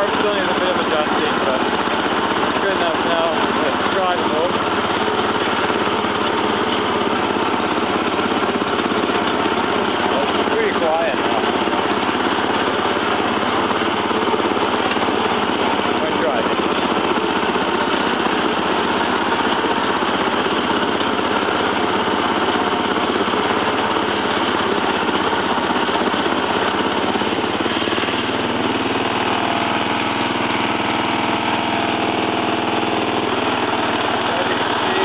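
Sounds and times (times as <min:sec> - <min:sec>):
lawn tractor engine running: 0:00.0 - 0:35.0.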